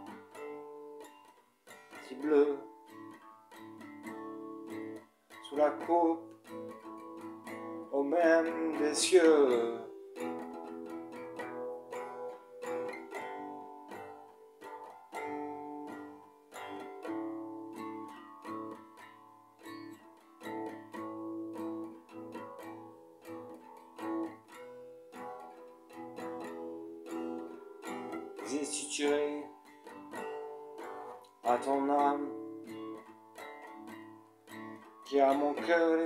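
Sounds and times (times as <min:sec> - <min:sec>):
steel-string acoustic guitar chords: 0:00.0 - 0:36.0.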